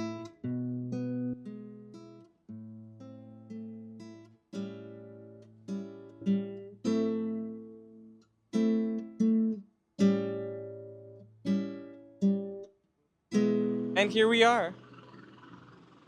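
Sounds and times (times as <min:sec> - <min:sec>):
acoustic guitar chords: 0:00.0 - 0:12.7, 0:13.3 - 0:15.8.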